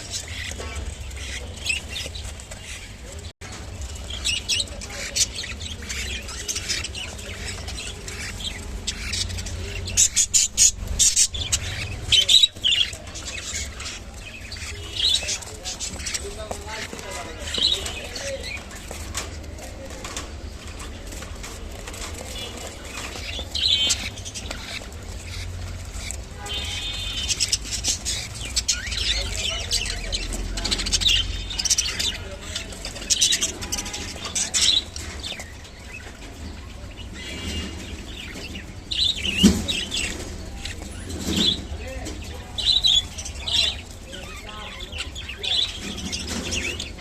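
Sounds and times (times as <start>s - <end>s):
budgerigars chirping and chattering: 0.0s - 47.0s.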